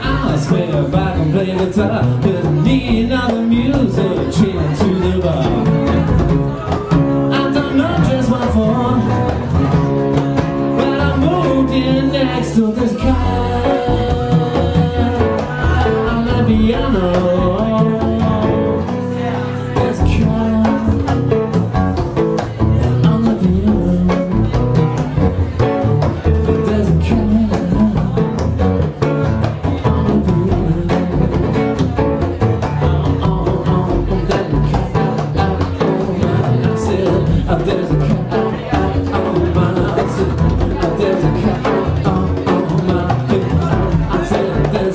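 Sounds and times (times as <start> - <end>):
congas: 0.0 - 44.9
electric guitar lead: 0.0 - 44.9
walking double bass: 0.0 - 44.9.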